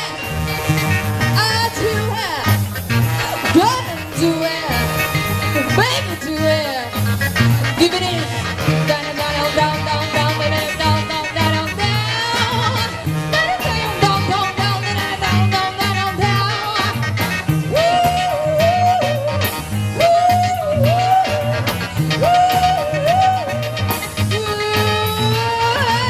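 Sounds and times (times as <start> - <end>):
bass: 0.0 - 26.0
bending lead line: 0.0 - 26.0
drums: 0.0 - 26.0
live band playing ska: 0.0 - 26.0.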